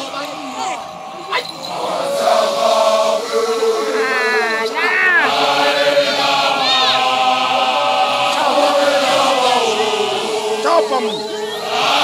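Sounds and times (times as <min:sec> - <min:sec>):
group chanting long notes: 0:00.0 - 0:12.0
higher voices rising and falling: 0:00.0 - 0:12.0.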